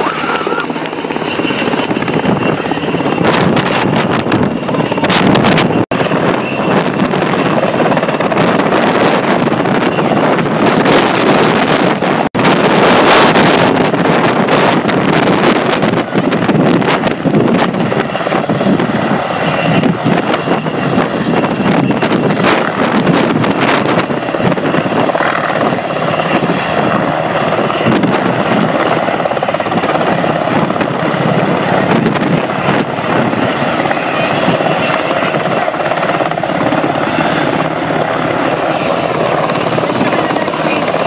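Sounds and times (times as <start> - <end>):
helicopter hovering: 0.0 - 41.0.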